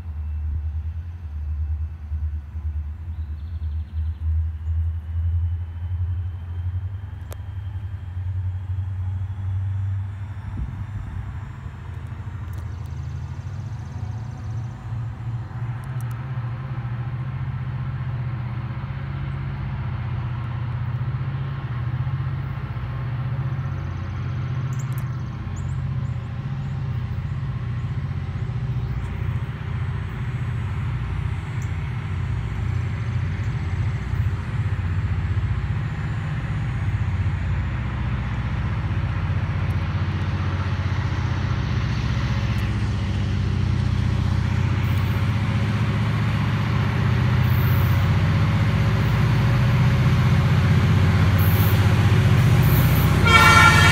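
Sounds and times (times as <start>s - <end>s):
locomotive engine drone: 0.0s - 53.9s.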